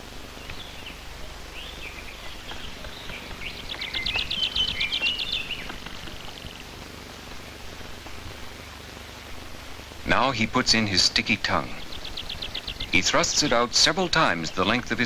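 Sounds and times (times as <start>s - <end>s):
rapid run of high bird notes: 0.0s - 15.0s.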